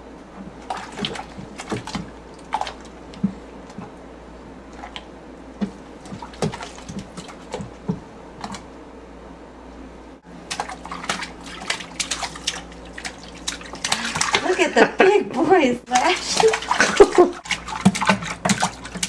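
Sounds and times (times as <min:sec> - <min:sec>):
water splashing in bathtub: 0:00.3 - 0:08.8, 0:10.2 - 0:19.0.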